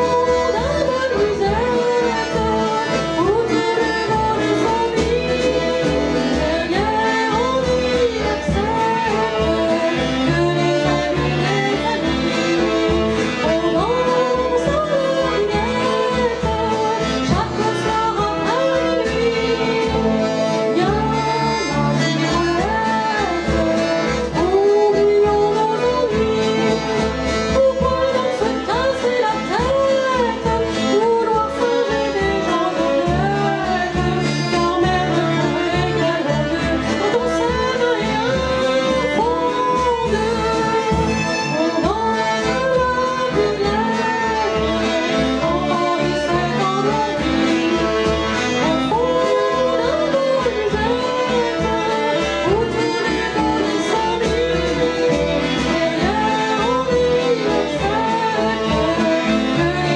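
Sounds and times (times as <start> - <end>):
fiddle: 0.0 - 59.9
folk dance band playing: 0.0 - 59.9
woman singing: 0.0 - 59.9.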